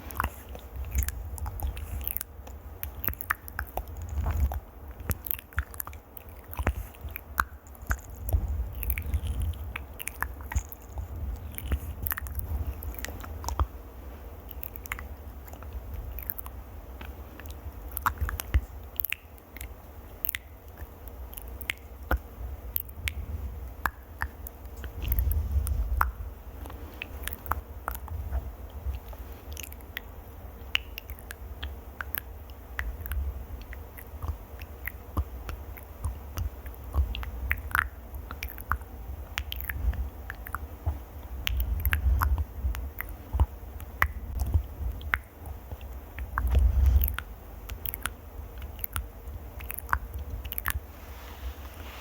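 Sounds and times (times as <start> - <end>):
crisp clicks and crackles: 0.0 - 52.0.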